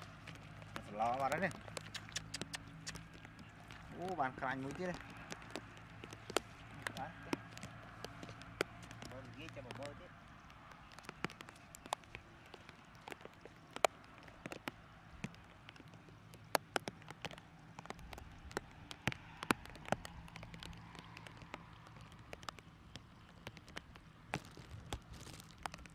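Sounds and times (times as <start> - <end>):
faint steady rain hiss: 0.0 - 25.9
raindrops ticking: 0.0 - 25.9.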